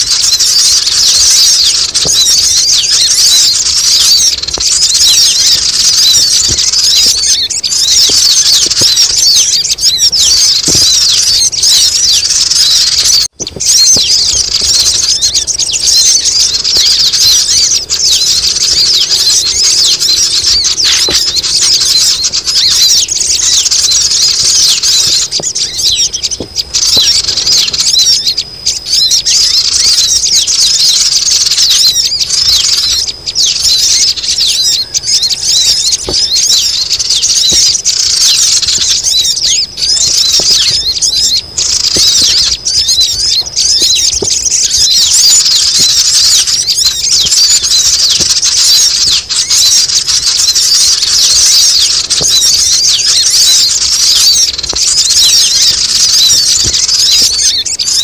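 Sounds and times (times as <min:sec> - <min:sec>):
birds chattering and twittering: 0:00.0 - 0:58.0.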